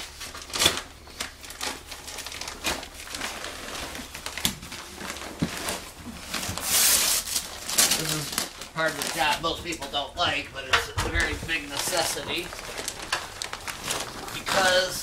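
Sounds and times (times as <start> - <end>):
insulation paper rustling and tearing: 0.0 - 10.4, 11.0 - 15.0.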